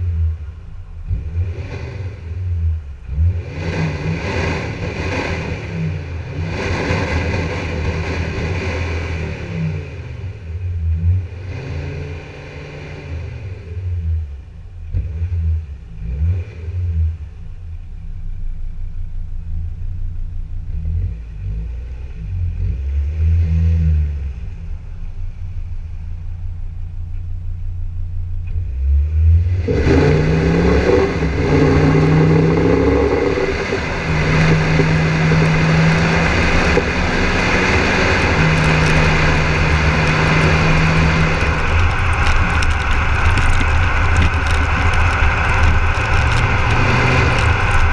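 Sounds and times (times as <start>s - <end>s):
diesel engine rumbling and revving: 0.0s - 47.9s.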